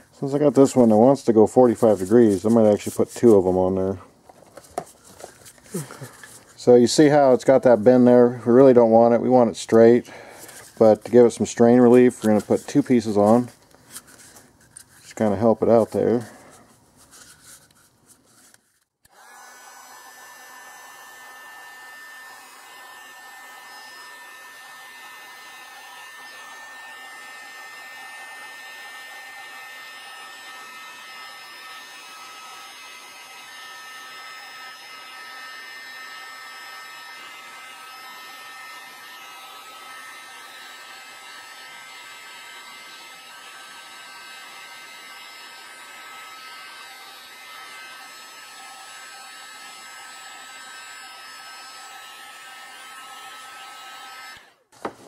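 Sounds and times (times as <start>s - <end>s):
heat gun blowing and whining: 0.0s - 14.2s, 19.0s - 54.7s.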